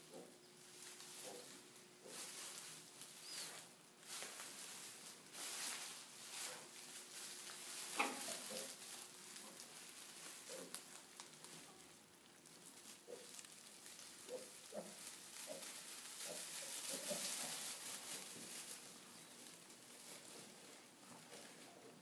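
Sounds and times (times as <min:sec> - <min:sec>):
piglets rustling in straw: 0:00.0 - 0:22.0.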